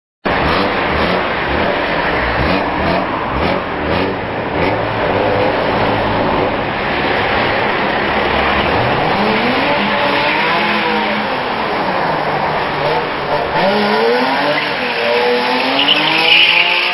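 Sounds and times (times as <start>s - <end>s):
car engine revving: 0.3s - 16.9s.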